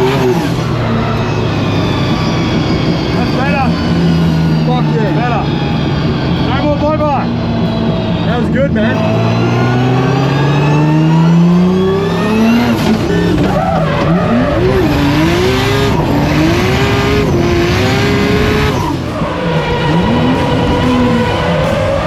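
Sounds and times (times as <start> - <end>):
car engine at high revs: 0.0 - 22.0
tyres skidding and squealing: 0.0 - 22.0.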